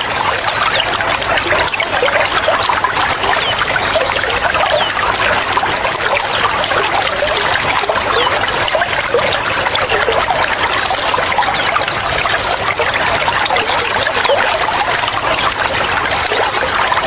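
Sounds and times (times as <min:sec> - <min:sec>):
small birds chirping: 0:00.0 - 0:17.0
water trickling and gurgling: 0:00.0 - 0:17.0.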